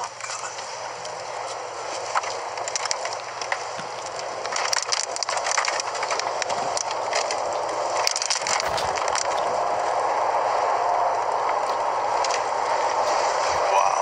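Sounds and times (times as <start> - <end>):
crackling clicks: 0.0 - 13.7
storm wind and rain: 0.0 - 14.0.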